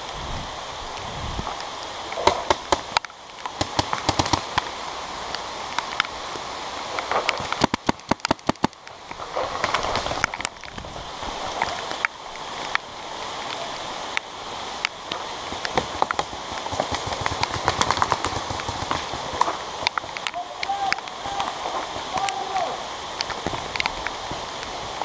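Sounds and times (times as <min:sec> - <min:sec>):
rain hissing: 0:00.0 - 0:25.0.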